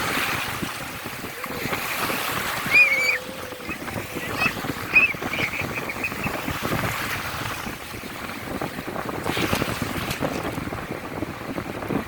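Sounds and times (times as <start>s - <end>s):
sea waves: 0.0s - 12.0s
wind buffeting microphone: 0.0s - 12.0s.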